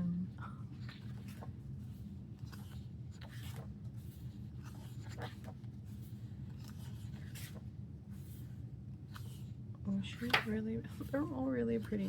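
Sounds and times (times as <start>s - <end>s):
pages rustling and sliding: 0.7s - 9.6s, 10.2s - 12.0s.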